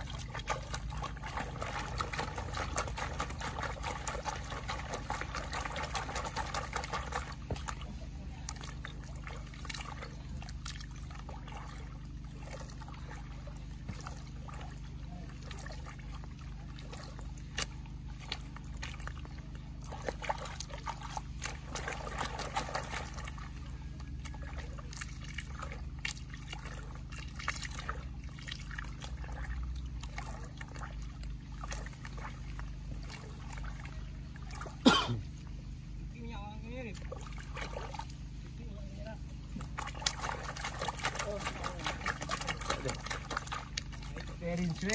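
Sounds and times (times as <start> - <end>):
low hum: 0.0 - 44.9
muddy water sloshing in pan: 0.0 - 44.9
water splashing: 0.0 - 44.9.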